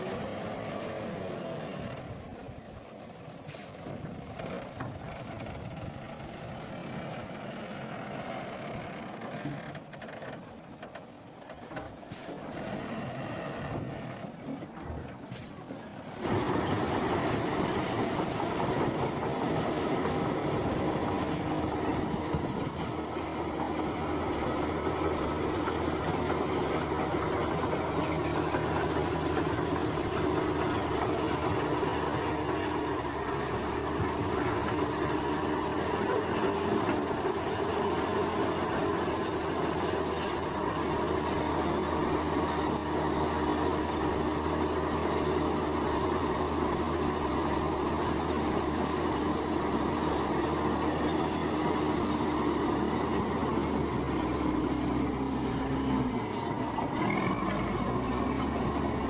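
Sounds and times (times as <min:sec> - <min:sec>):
heavy diesel machinery running: 0:10.5 - 0:59.0.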